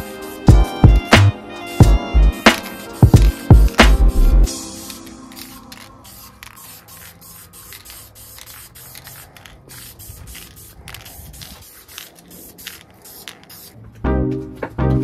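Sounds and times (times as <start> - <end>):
spray primer hissing bursts: 0.0 - 14.0.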